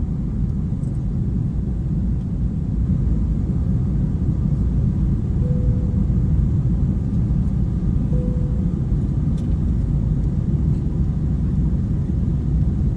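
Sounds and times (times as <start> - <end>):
airliner engine rumble in cabin: 0.0 - 12.9.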